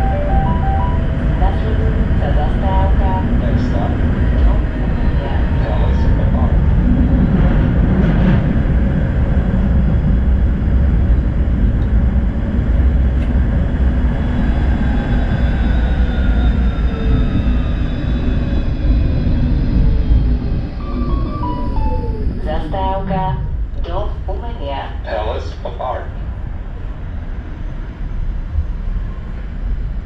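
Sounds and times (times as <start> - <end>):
tram rumbling on rails: 0.0 - 30.0.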